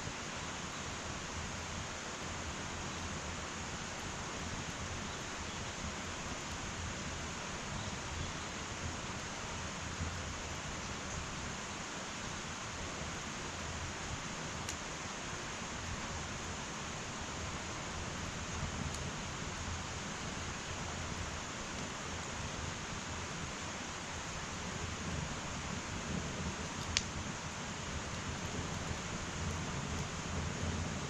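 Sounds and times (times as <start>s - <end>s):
faint fire crackles: 0.0s - 31.0s
firewood burning hiss: 0.0s - 31.0s.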